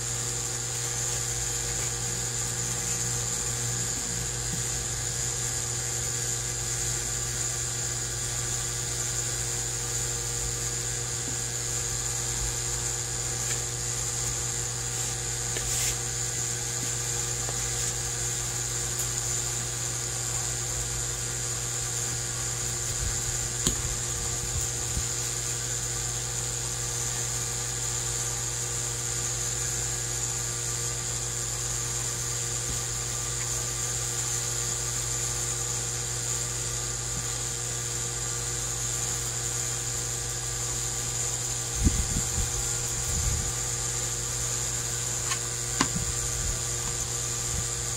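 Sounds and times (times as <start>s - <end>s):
mechanical hum with whine: 0.0s - 47.9s.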